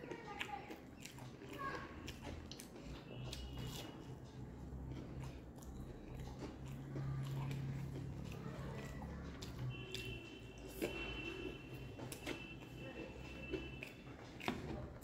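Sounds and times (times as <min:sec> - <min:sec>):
person chewing crispy food: 0:00.0 - 0:15.0.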